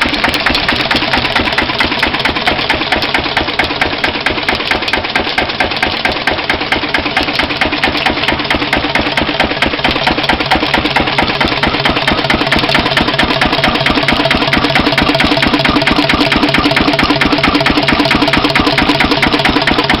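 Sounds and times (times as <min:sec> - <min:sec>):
diesel engine knocking: 0:00.0 - 0:20.0.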